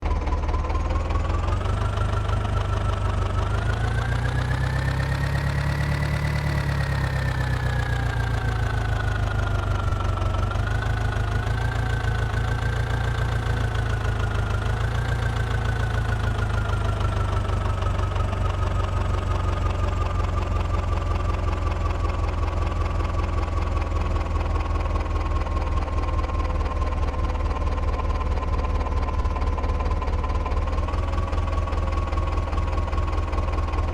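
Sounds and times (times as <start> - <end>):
tractor diesel engine pulling load: 0.0 - 33.9.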